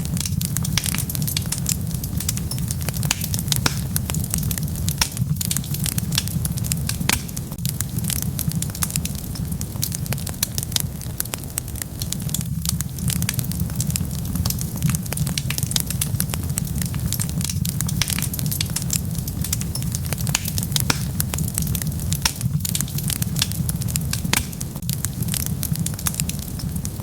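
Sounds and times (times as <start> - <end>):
crackles and pops of burning logs: 0.0 - 27.0
wood fire rumbling: 0.0 - 27.0.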